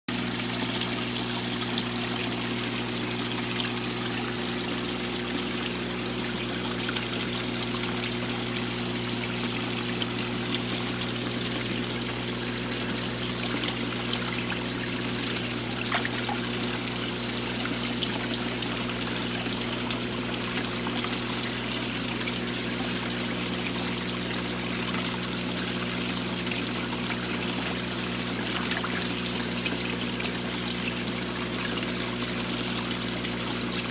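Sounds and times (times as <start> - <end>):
water running and bubbling: 0.1 - 33.9.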